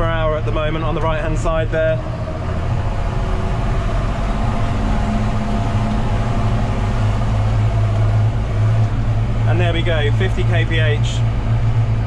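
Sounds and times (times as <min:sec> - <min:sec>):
faint transmission whine: 0:00.0 - 0:12.0
tractor diesel engine droning: 0:00.0 - 0:12.0.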